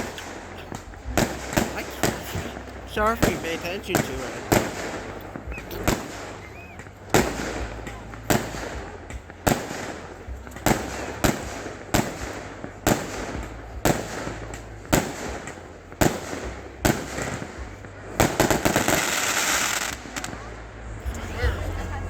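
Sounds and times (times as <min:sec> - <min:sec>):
firework shells bursting: 0:00.0 - 0:20.5
crackling firework pops: 0:00.0 - 0:20.6.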